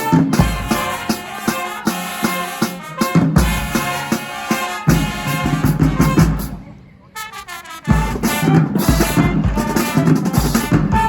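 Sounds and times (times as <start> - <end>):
snare and bass drum hits: 0.0 - 6.6, 7.9 - 11.0
deep low brass notes: 0.0 - 11.0
marching band brass tune: 0.0 - 11.0.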